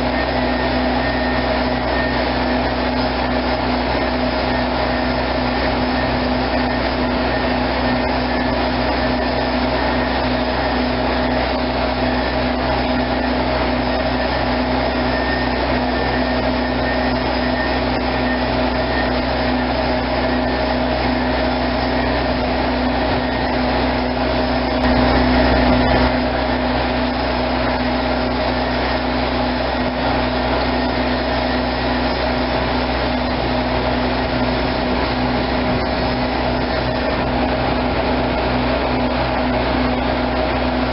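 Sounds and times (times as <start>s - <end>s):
heavy equipment engine droning: 0.0s - 40.9s.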